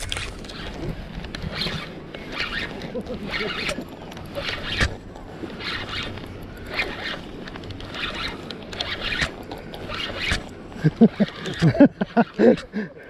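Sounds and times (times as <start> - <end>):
fishing reel cranking: 0.0 - 12.8.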